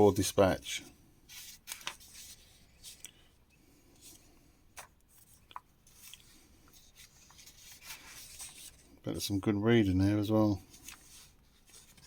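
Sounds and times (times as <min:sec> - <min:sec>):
magazine pages rustling: 0:00.0 - 0:12.0.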